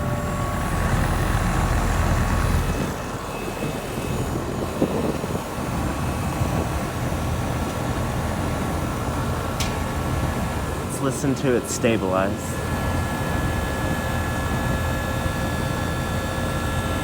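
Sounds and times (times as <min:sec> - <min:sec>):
compressor humming: 0:00.0 - 0:17.0
condenser fan rushing: 0:00.0 - 0:17.0.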